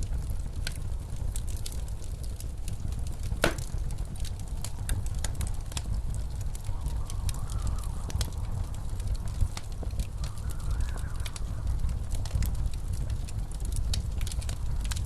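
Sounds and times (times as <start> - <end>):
blizzard wind howling: 0.0 - 15.0
wood fire crackling: 0.0 - 15.0.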